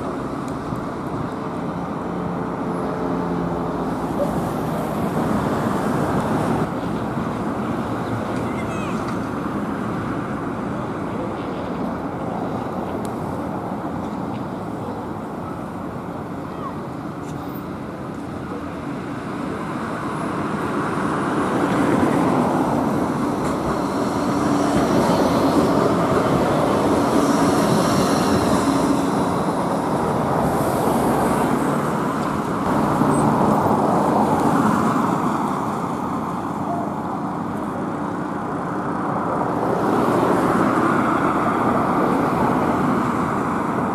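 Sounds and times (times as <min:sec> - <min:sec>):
tram wheels rumbling on rail: 0:00.0 - 0:43.9.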